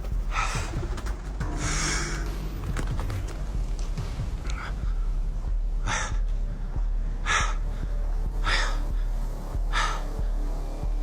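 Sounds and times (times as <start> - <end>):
person breathing hard: 0.0 - 2.6, 4.4 - 10.8
low rumble: 0.0 - 11.0.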